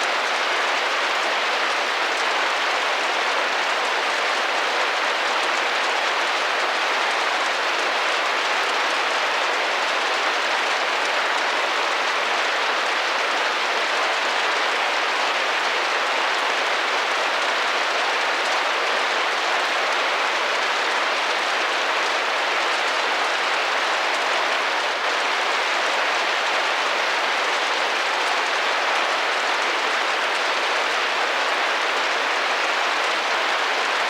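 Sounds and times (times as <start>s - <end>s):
rain pattering on a window: 0.0s - 34.0s.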